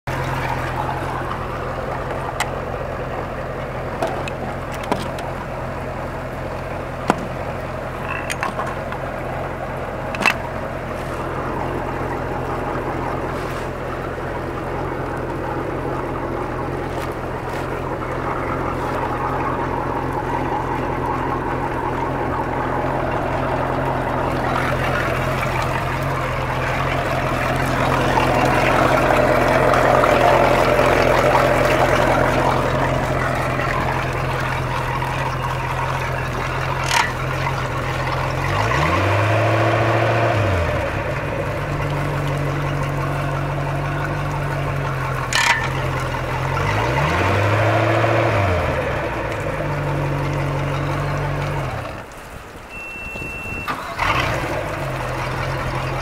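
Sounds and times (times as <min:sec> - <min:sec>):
boat engine idling: 0:00.0 - 0:56.0
water splashing onto pavement: 0:00.0 - 0:56.0.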